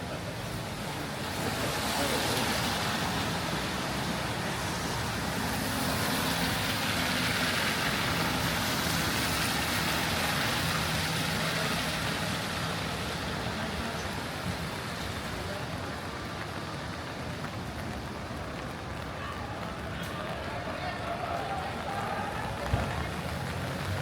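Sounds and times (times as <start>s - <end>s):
tyres hissing on wet road: 0.0s - 24.0s.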